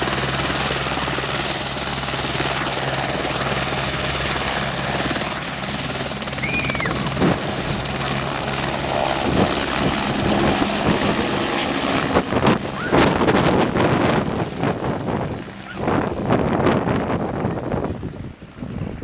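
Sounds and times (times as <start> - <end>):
high turbine whine: 0.0 - 18.9
helicopter rotor and engine: 0.0 - 19.0
wind buffeting microphone: 0.0 - 19.0.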